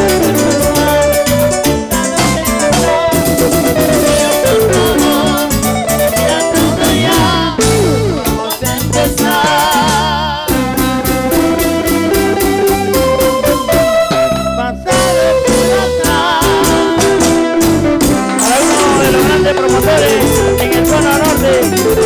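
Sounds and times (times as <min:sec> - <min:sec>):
live band latin dance music: 0:00.0 - 0:22.0.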